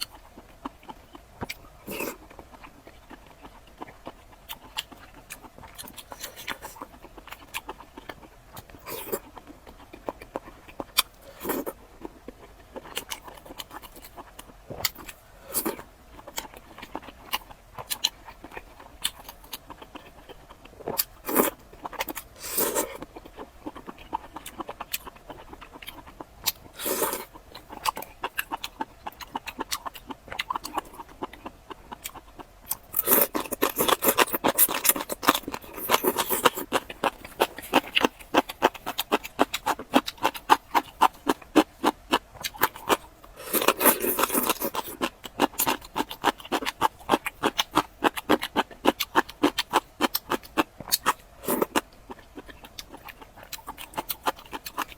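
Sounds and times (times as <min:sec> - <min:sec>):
chewing and crunching: 0:00.0 - 0:54.9.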